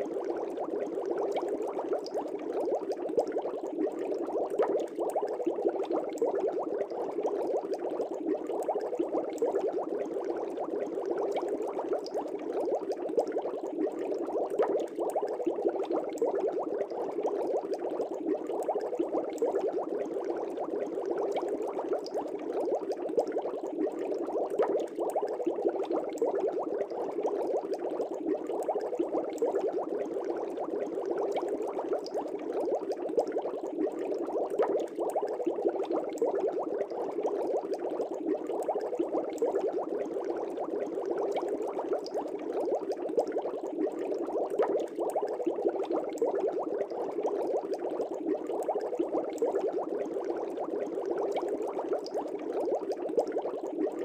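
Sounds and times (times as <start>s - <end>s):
aquarium air bubbles: 0.0s - 54.0s.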